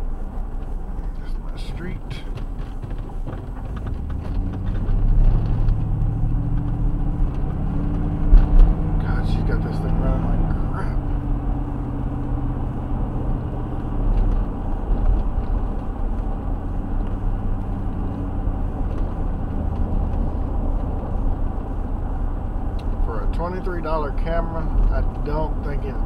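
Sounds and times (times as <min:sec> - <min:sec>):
faint engine hum: 0:00.0 - 0:26.0
road noise inside car: 0:00.0 - 0:26.0.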